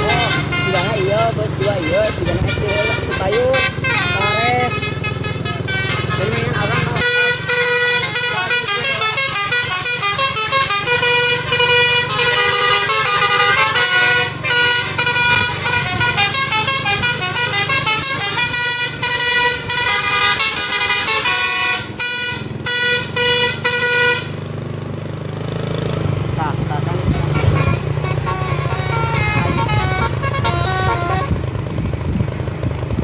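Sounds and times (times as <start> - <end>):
musical air horn tune: 0.0 - 24.5, 27.0 - 31.5
low engine hum: 0.0 - 33.0.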